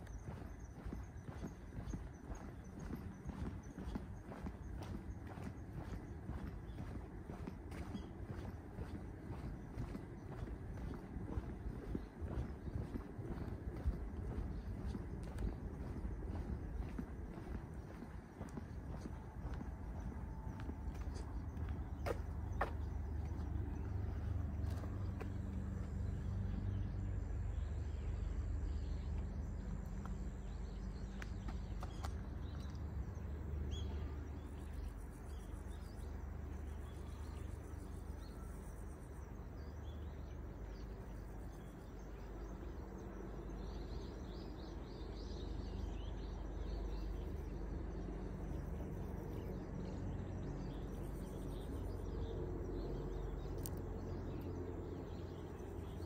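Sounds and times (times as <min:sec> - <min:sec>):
distant town noise: 0:00.0 - 0:56.0
low rumble of wind: 0:00.0 - 0:56.0
small birds chirping faintly: 0:00.0 - 0:56.0.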